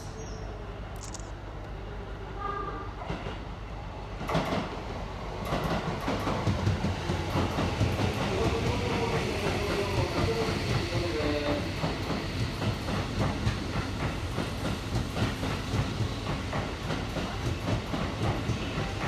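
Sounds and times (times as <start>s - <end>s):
steady train whine: 0.0s - 19.0s.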